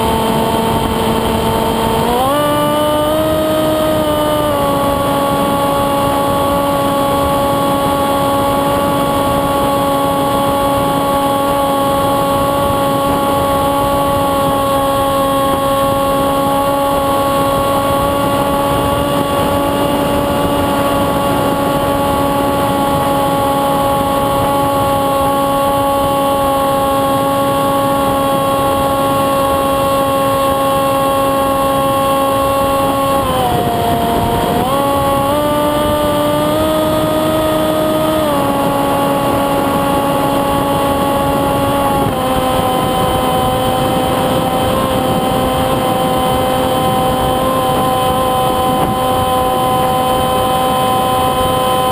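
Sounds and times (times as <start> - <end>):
electric motor propeller whine: 0.0 - 51.9.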